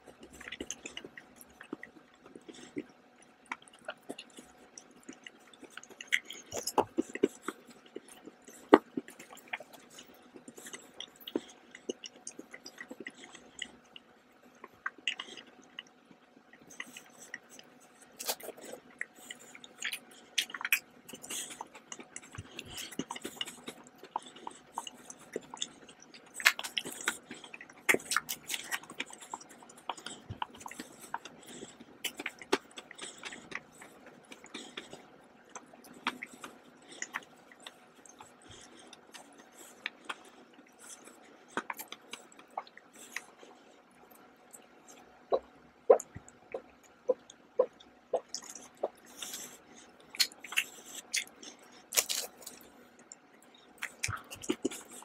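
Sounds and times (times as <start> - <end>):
chewing and biting chocolate: 0.0 - 55.0.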